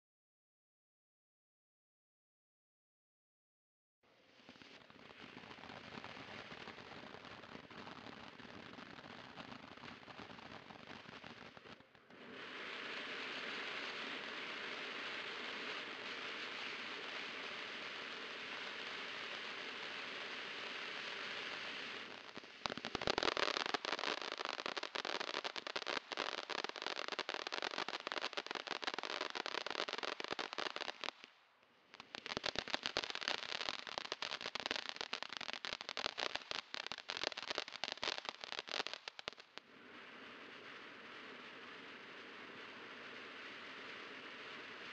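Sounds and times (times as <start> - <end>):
firework crackling: 4.1 - 44.9
firework fountain hissing: 4.4 - 44.9.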